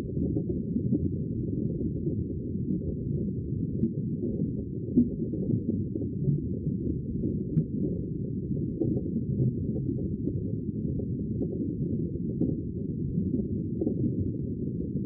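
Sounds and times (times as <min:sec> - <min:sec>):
sea water low rumble: 0:00.0 - 0:15.0.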